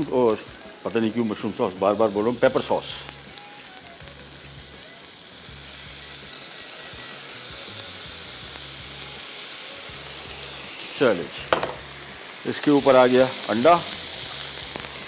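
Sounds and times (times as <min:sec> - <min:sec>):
sauce sizzling on hot plate: 0:00.0 - 0:15.0.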